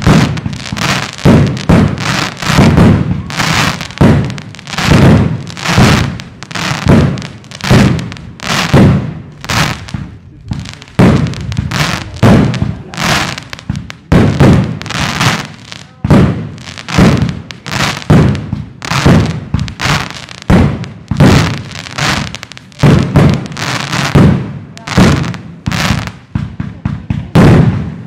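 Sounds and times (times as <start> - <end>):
fireworks bursting: 0.0 - 28.0
small firework pops: 0.0 - 28.0.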